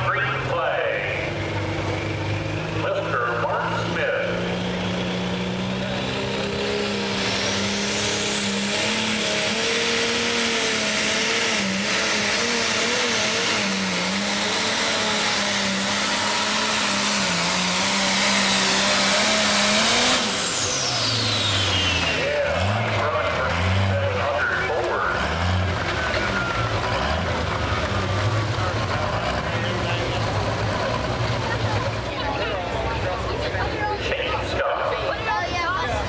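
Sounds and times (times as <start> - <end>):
high turbo whine: 0.0 - 36.0
tractor diesel engine at full power: 0.0 - 36.0.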